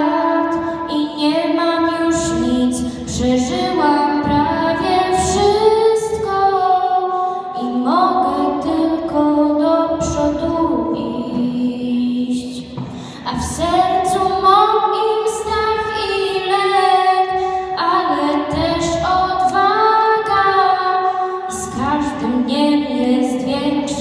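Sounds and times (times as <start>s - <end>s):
girl singing into microphone: 0.0s - 24.0s.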